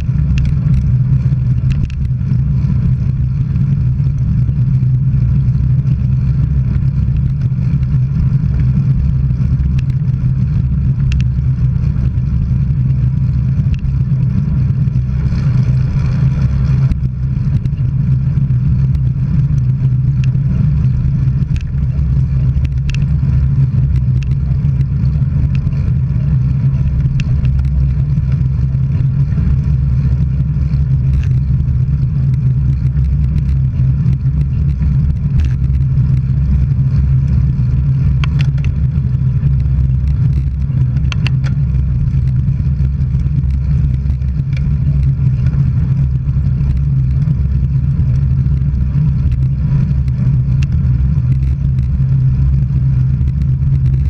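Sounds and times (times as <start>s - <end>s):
faint ticks: 0.0s - 54.0s
wind and road noise rumble: 0.0s - 54.0s.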